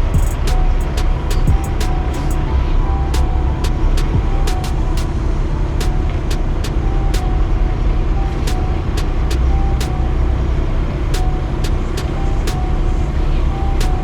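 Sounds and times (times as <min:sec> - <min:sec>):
heavy truck engine and road rumble: 0:00.0 - 0:14.0.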